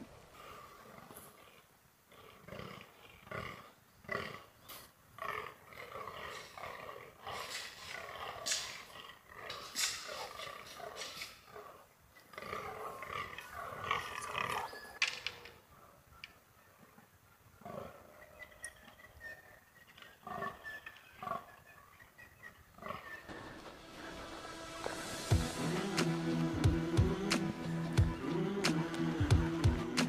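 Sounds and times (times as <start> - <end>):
deer croaking: 0.2 - 25.1.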